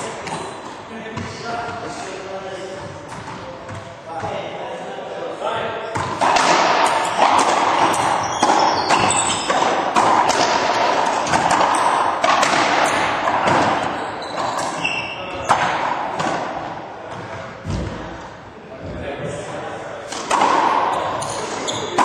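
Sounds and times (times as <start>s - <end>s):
ball hitting racquets and walls: 0.0s - 4.5s, 5.9s - 22.0s.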